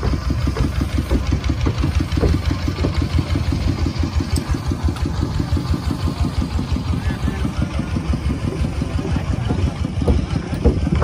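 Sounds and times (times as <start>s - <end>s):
engine chugging: 0.0s - 11.0s.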